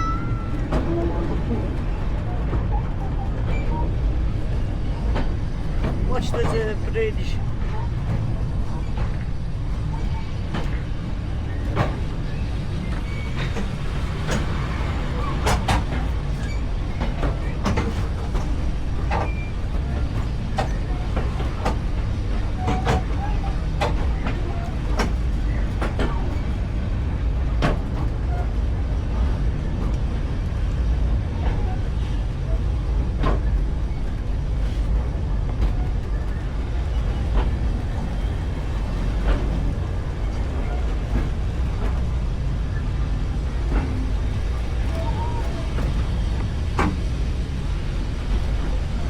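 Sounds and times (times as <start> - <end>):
railway carriage rumble: 0.0 - 49.0.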